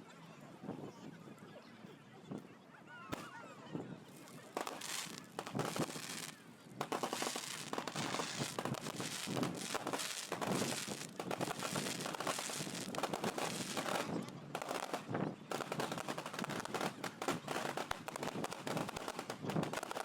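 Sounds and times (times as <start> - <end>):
fireworks crackling bangs: 3.1 - 3.3, 4.0 - 20.0.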